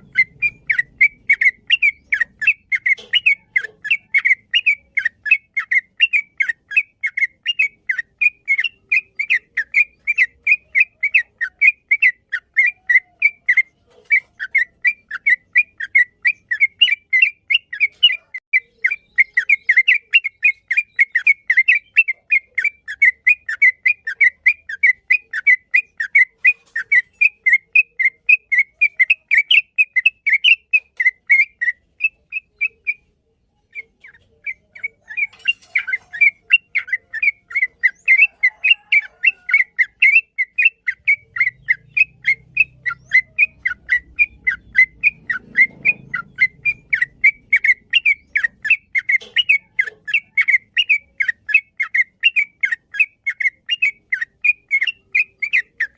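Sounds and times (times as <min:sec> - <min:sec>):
bulbul singing whistled notes: 0:00.0 - 0:55.9.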